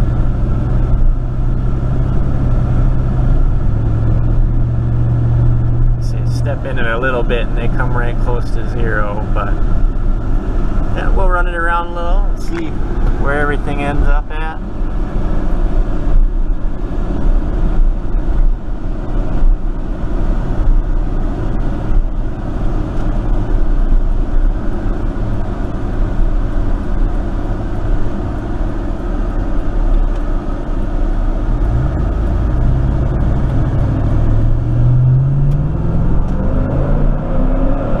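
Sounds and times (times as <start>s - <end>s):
road noise: 0.0s - 38.0s
truck engine accelerating: 0.0s - 38.0s.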